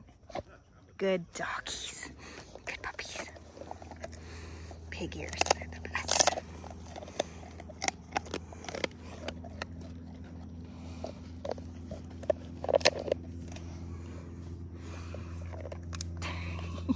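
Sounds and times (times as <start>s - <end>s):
dog chewing with crunches: 0.0s - 16.9s
steady low hum: 0.0s - 16.9s.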